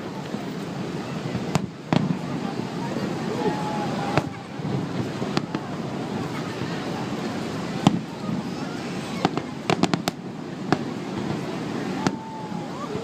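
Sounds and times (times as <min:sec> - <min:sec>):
background rumble: 0:00.0 - 0:13.0
fireworks bangs: 0:01.2 - 0:13.0.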